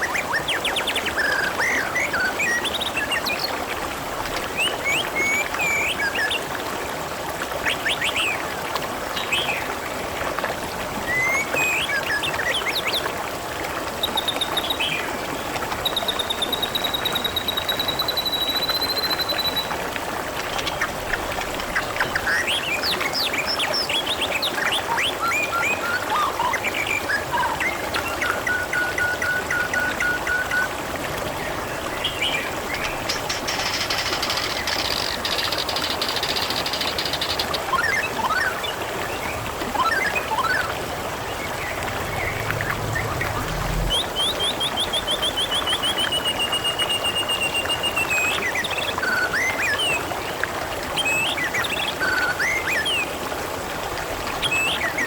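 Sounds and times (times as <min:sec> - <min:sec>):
water trickling and flowing: 0:00.0 - 0:55.0.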